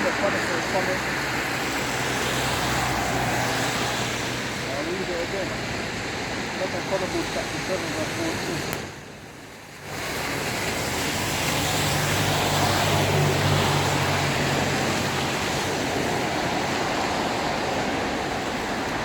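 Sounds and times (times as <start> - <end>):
road hiss: 0.0 - 19.0.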